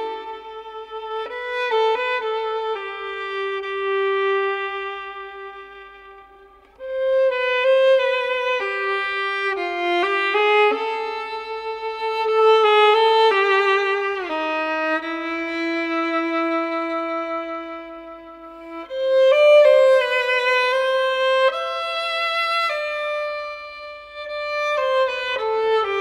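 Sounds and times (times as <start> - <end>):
solo violin melody: 0.0 - 26.0.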